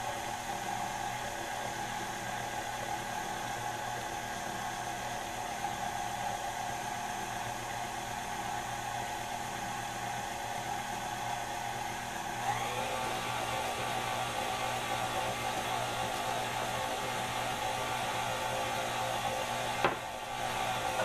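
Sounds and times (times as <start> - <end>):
stand mixer motor whirring: 0.1 - 21.0.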